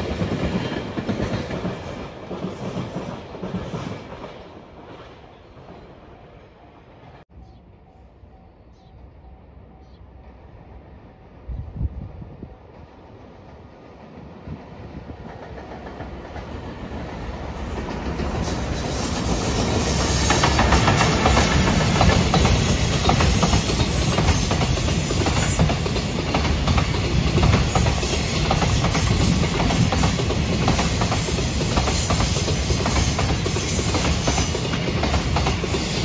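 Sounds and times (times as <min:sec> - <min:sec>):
freight train rumble: 0:00.0 - 0:36.0.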